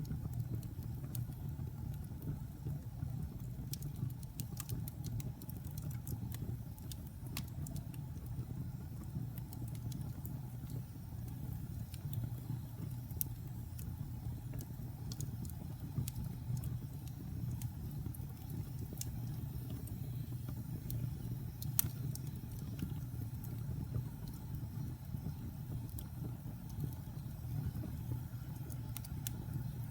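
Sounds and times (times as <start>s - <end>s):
fire burning in a fireplace: 0.0s - 29.9s
fire crackles and pops: 0.0s - 29.9s.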